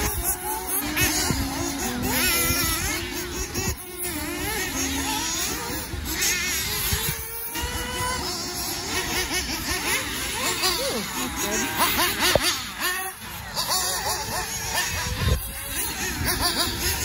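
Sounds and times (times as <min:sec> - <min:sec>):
rc car engines revving: 0:00.0 - 0:17.0.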